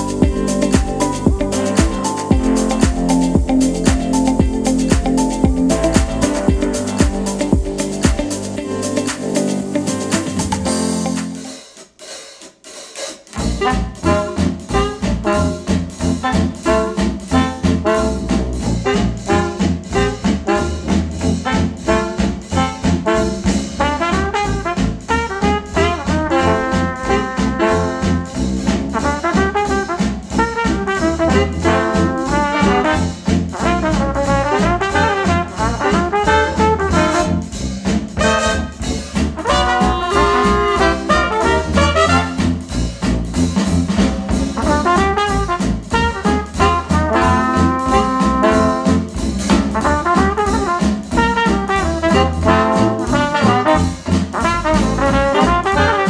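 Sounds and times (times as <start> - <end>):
jazz band with trombone and trumpet: 0.0 - 11.8, 12.6 - 56.0.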